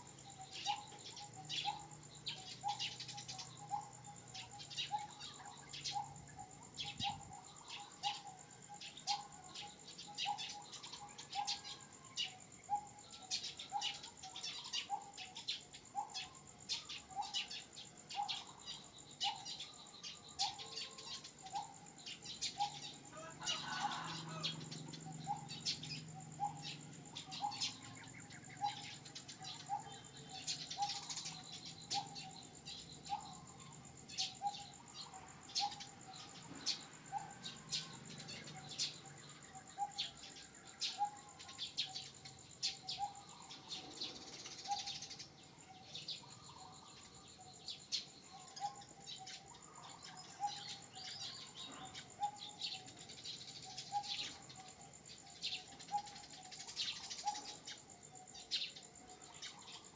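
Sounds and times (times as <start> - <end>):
birds chirping: 0.0 - 59.9
high-pitched insect drone: 0.0 - 59.9.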